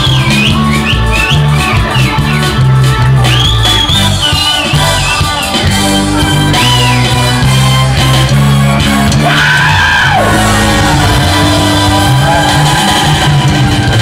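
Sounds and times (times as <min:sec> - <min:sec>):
crowd shouting and yelling: 0:00.0 - 0:14.0
live band playing dance music: 0:00.0 - 0:14.0.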